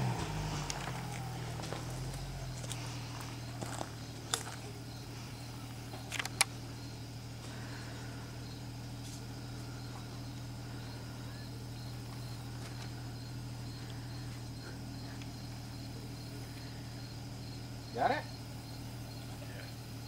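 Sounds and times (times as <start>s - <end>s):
car engine idling: 0.0s - 20.0s
faint insect chirping: 0.0s - 20.0s.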